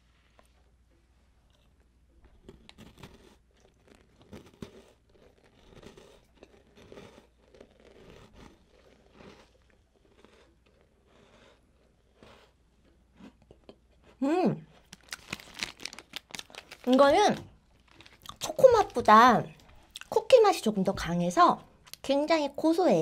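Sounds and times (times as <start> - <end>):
crunching and chewing cookie: 0.0 - 20.4.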